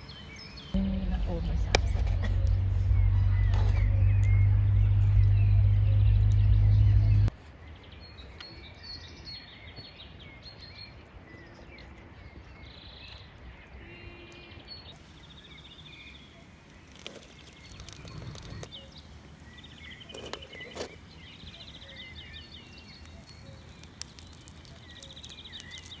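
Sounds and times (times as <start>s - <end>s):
low outdoor background noise: 0.0s - 26.0s
small birds chirping and trilling: 0.0s - 26.0s.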